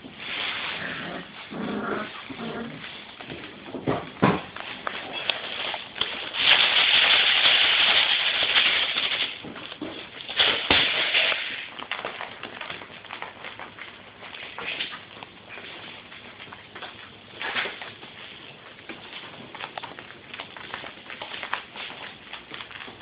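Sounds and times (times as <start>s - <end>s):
crinkling rustle: 0.0s - 23.0s.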